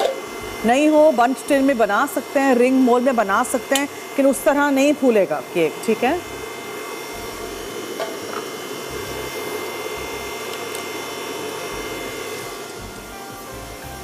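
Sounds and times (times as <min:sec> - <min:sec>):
stand mixer whisking: 0:00.0 - 0:14.0.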